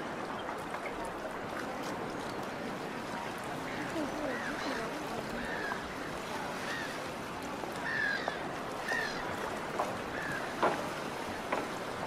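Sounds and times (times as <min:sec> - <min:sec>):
water wash: 0:00.0 - 0:12.0.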